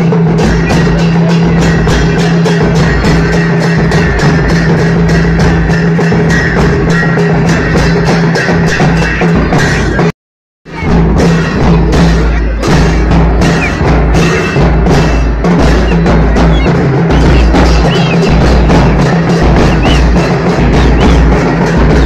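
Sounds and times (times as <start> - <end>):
sharp percussion strokes: 0.0 - 10.1, 10.7 - 22.0
bass drums marching rhythm: 0.0 - 22.0.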